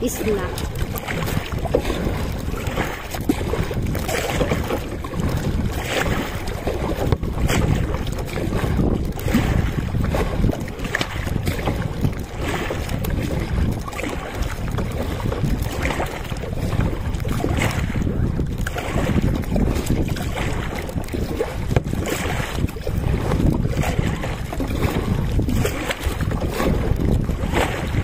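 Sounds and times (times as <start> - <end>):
paddle strokes splashing: 0.0 - 28.0
wind buffeting microphone: 0.0 - 28.0.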